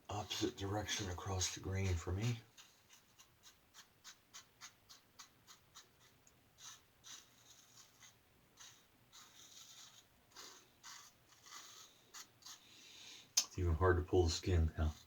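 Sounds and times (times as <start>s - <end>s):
razor scraping stubble: 0.1s - 15.0s.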